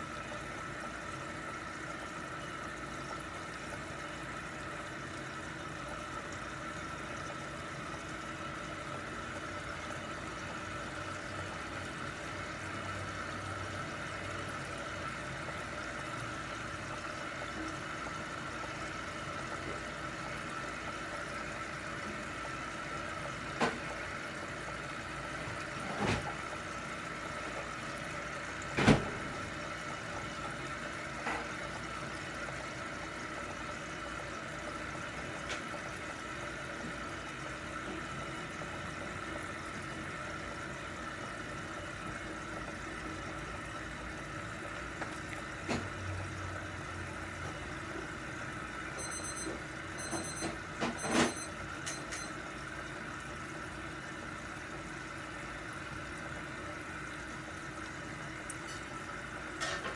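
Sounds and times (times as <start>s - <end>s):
aquarium air pump humming: 0.0s - 59.9s.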